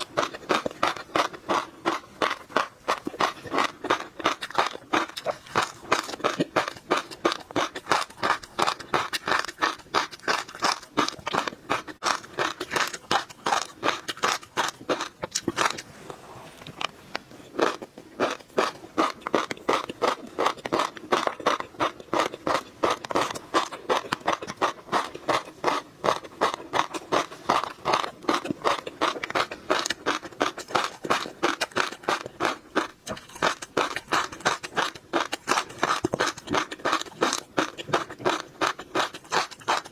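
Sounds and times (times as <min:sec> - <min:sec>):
crunchy chewing with pops: 0:00.0 - 0:39.9.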